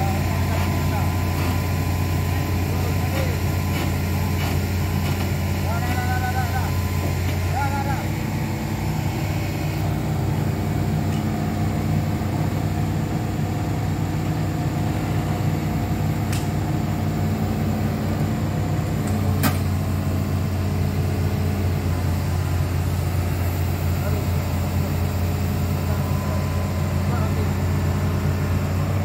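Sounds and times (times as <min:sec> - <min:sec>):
engine humming: 0:00.0 - 0:29.0.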